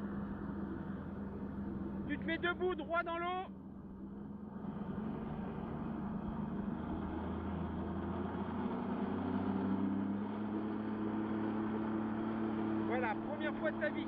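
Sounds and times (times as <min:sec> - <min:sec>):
personal watercraft engine running: 0:00.0 - 0:14.0.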